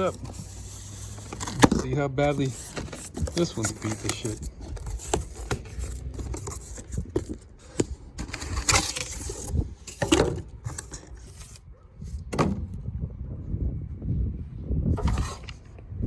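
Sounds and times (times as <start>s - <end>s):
cardboard box scraping and rustling: 0.0s - 12.3s, 15.0s - 15.7s.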